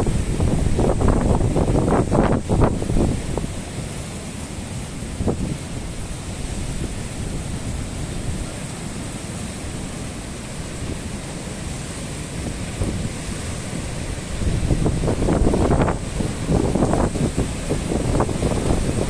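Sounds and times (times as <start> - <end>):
storm wind buffeting microphone: 0.0 - 3.8, 4.9 - 19.0.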